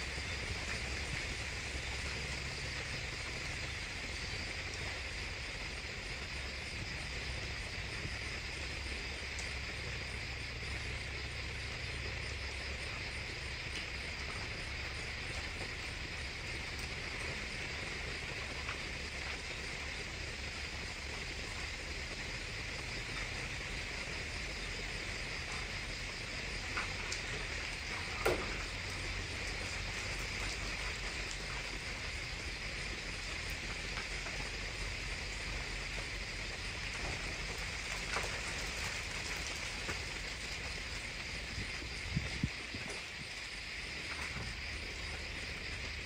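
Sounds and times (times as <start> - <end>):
night insects chirring: 0.0 - 46.0.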